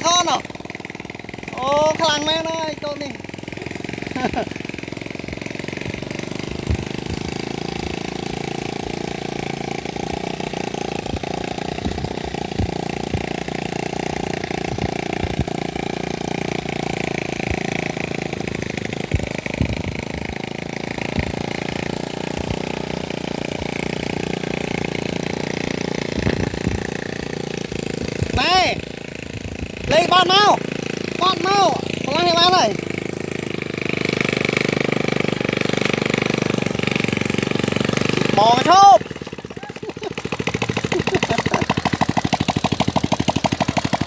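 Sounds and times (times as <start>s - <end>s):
engine knocks: 0.0s - 44.0s
small engine running: 0.0s - 44.0s.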